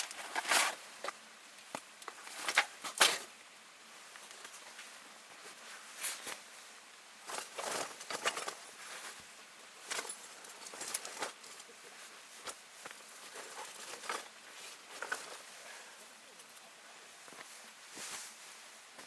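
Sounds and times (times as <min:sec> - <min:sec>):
rustling and scraping handling: 0:00.0 - 0:03.4, 0:04.0 - 0:19.0.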